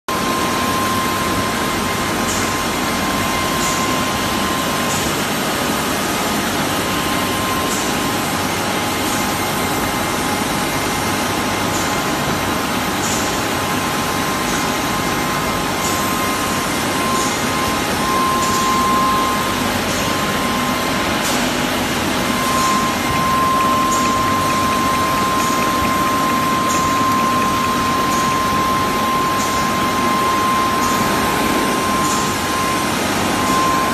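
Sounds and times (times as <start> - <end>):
labelling machine whining: 0.1 - 33.9.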